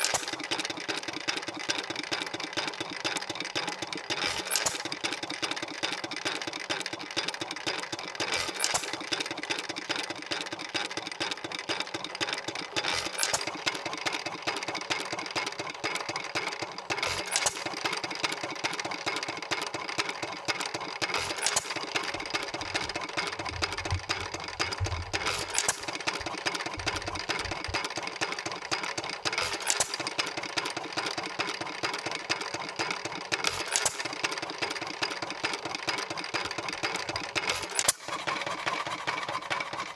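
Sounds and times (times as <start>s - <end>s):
engine mechanical clatter: 0.0s - 39.9s.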